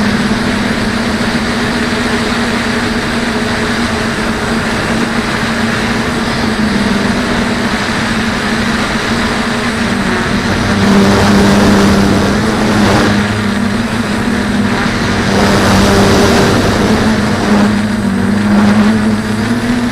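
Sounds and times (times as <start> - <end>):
quadcopter propellers buzzing: 0.0 - 19.9
rush of air: 0.0 - 19.9.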